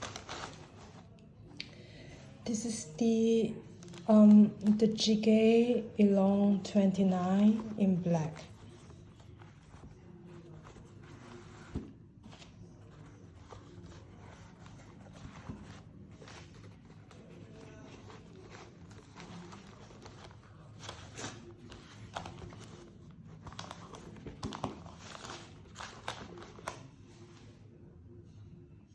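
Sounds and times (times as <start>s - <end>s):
packaging rustling: 0.0s - 1.1s, 3.6s - 26.9s.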